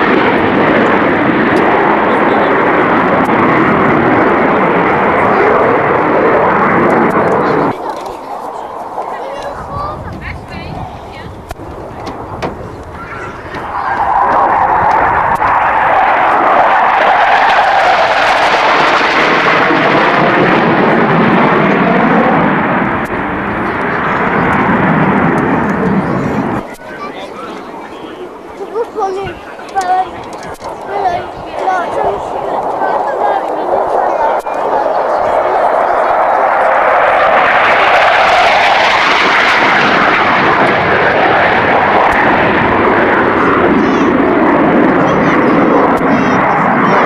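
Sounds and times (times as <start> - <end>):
jet passing low overhead: 0.0 - 47.0.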